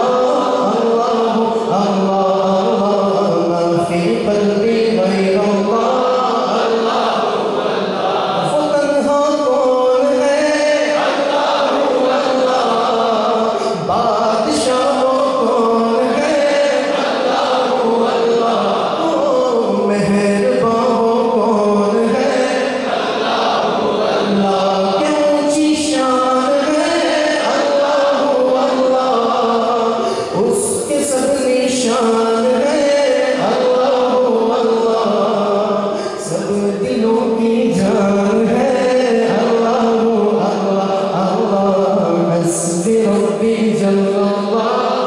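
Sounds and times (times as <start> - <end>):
man singing through microphone: 0.0 - 7.2, 8.0 - 45.0.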